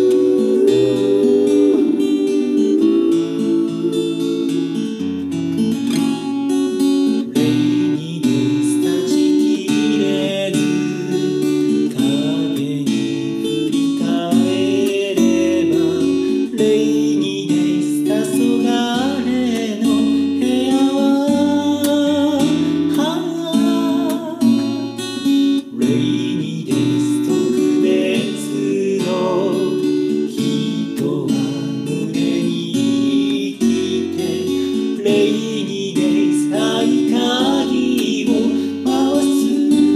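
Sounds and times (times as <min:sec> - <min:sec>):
fingerstyle acoustic guitar: 0:00.0 - 0:39.9.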